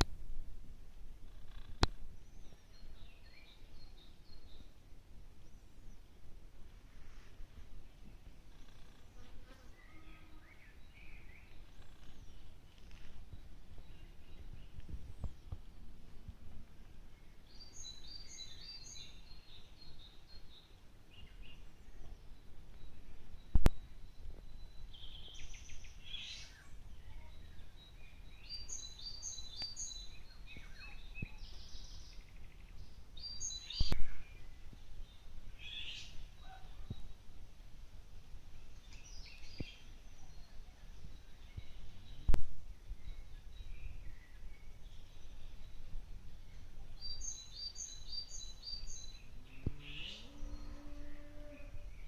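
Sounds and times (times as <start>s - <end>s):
small birds chirping: 1.2s - 6.2s, 7.8s - 37.6s, 38.3s - 52.0s.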